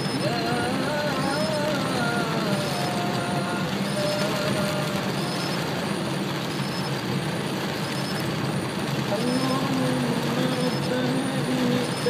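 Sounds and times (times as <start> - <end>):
heavy rain on car: 0.0 - 12.0
tyres on flooded road: 0.0 - 12.0.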